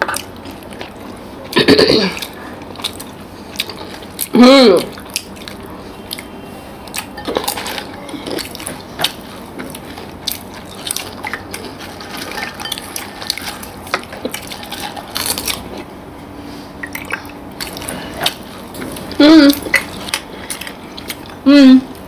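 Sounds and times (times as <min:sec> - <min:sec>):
wet chewing sounds: 0:00.0 - 0:22.0.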